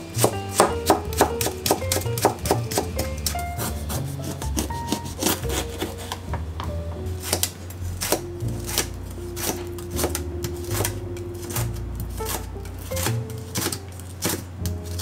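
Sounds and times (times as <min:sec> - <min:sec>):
knife chopping on cutting board: 0:00.0 - 0:15.0
soft background music: 0:00.0 - 0:15.0.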